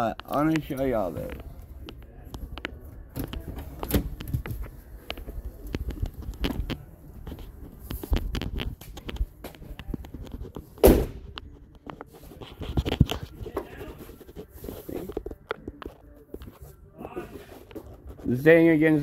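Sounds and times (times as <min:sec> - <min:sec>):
clothing rubbing on microphone: 0:00.2 - 0:19.0.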